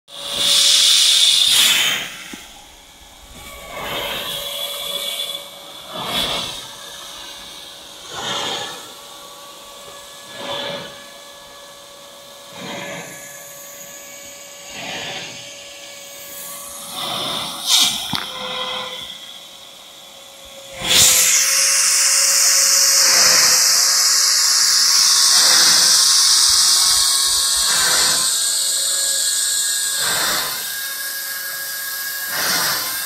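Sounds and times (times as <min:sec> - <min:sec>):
high-pressure water jet hissing: 0:00.1 - 0:33.0.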